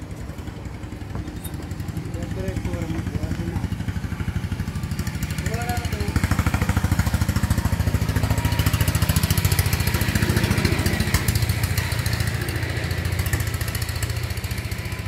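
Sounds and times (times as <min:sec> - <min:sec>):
engine chugging: 0:00.0 - 0:15.0.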